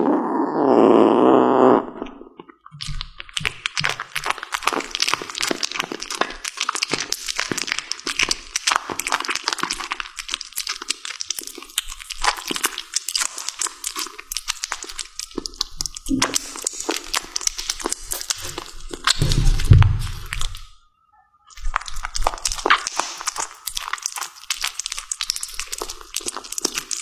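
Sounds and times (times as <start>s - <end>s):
kitten chewing raw fish: 2.7s - 20.7s, 21.5s - 27.0s.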